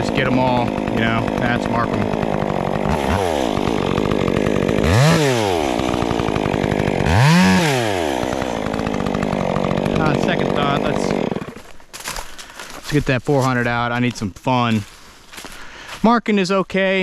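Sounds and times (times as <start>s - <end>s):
chainsaw idling and revving: 0.0s - 16.0s.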